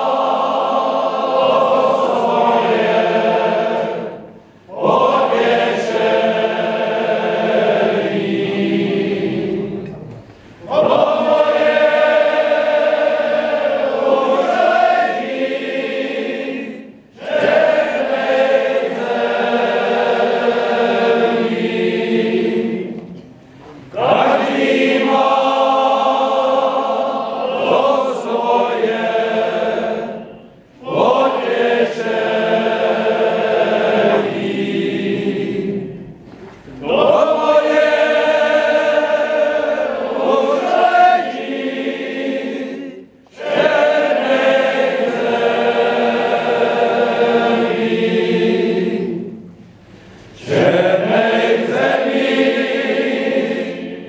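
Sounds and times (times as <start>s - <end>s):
men's choir singing: 0.0s - 10.0s, 10.6s - 23.3s, 23.9s - 54.0s.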